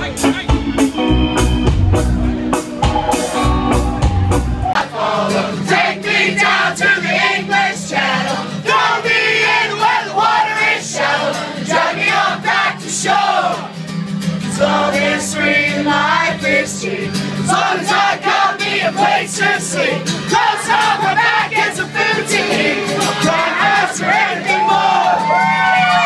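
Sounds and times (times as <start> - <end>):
acoustic guitar strumming: 0.0 - 26.0
crowd singing along: 2.2 - 26.0.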